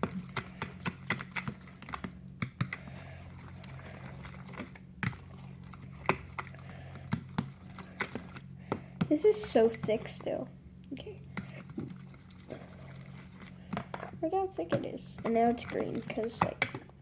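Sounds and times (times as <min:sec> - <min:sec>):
thick slime being stirred: 0:00.0 - 0:17.0.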